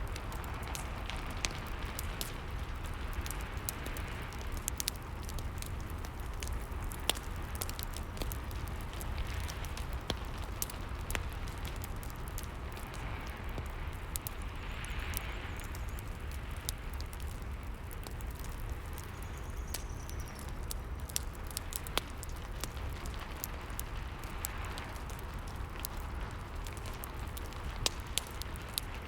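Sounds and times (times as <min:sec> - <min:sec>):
fireplace crackling and popping: 0:00.0 - 0:29.0.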